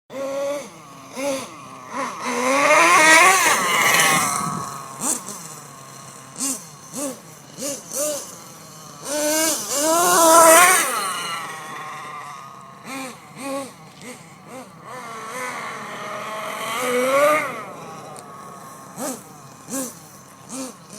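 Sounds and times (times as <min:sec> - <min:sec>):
model truck engine revving: 0:00.1 - 0:20.9.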